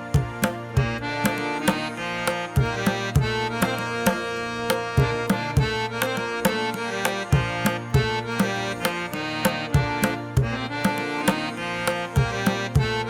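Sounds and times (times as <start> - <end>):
sustained melody of held notes: 0.0 - 13.0.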